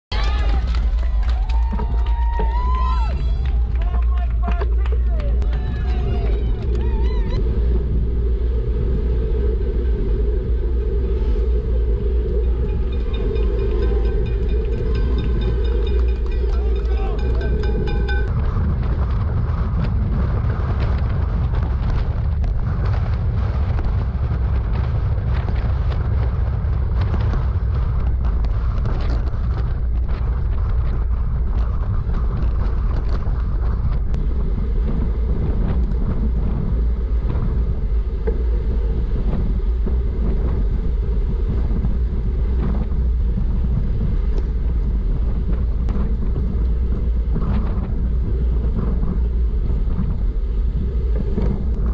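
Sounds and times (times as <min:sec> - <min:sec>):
wind buffeting microphone: 0:00.1 - 0:51.9.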